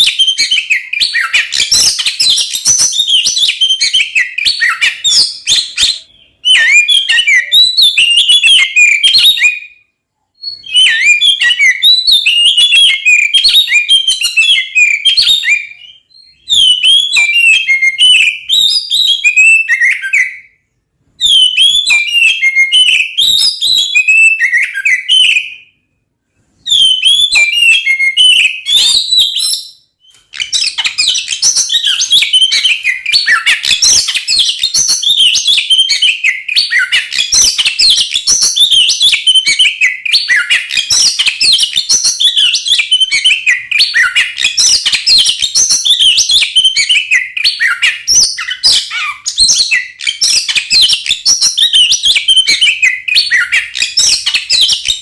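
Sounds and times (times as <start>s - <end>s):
magpie-robin singing: 0.0s - 9.8s, 10.4s - 25.8s, 26.6s - 55.0s.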